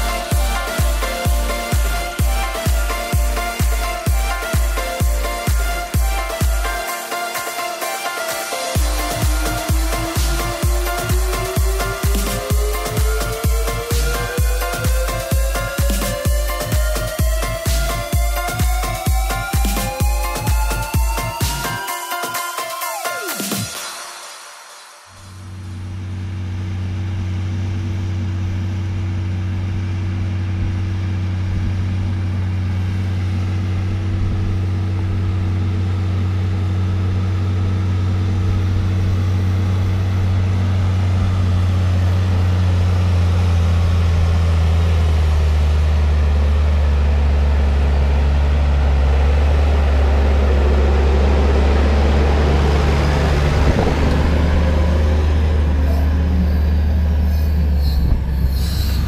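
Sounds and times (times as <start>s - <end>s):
tractor diesel engine droning: 0.0s - 24.4s, 25.0s - 59.0s
rushing noise: 0.0s - 27.5s, 37.9s - 59.0s.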